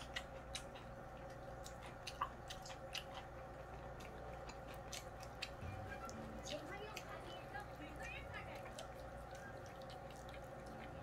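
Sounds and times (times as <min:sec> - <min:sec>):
person chewing food: 0:00.0 - 0:07.8, 0:08.4 - 0:11.0
faint steady hum: 0:00.0 - 0:11.0.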